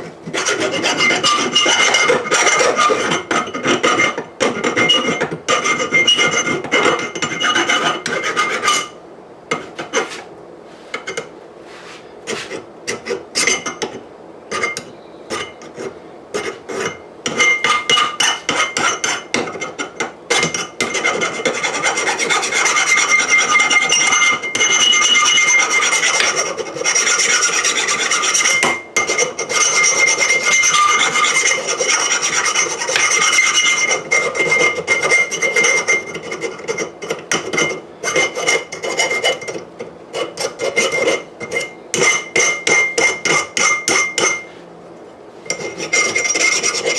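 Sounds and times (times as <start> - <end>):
steel scraping on steel: 0.0 - 9.0, 9.6 - 13.8, 14.5 - 44.6, 45.4 - 46.9.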